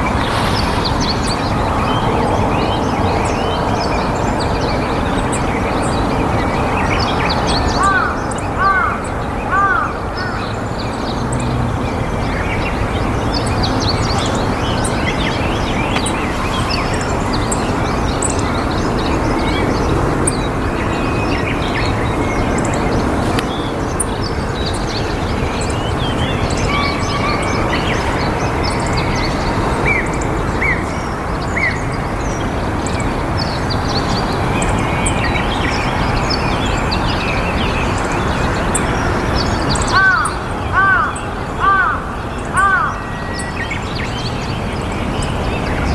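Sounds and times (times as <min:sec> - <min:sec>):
steady rushing noise: 0:00.0 - 0:40.8
small birds chirping: 0:00.0 - 0:45.9.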